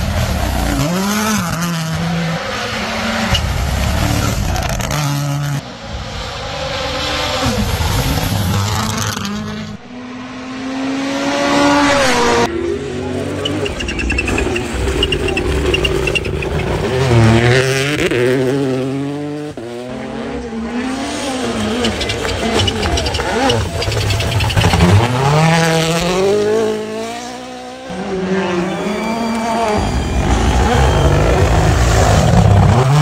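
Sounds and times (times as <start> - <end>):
rally car engines passing: 0.0 - 33.0.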